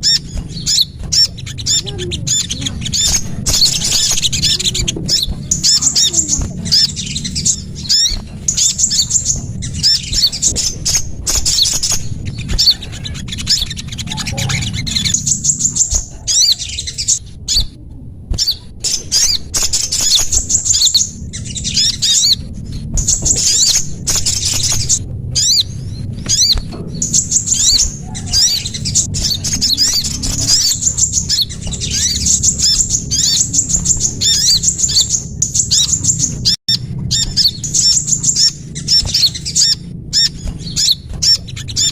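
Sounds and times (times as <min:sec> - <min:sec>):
songbirds chirping and trilling: 0:00.0 - 0:41.9
steady low rumble: 0:00.0 - 0:41.9.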